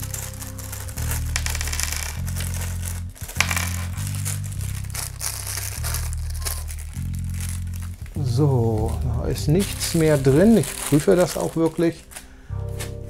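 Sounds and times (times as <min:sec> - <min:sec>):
paper bag crinkling: 0:00.0 - 0:12.4
background music with low chords: 0:00.0 - 0:13.0.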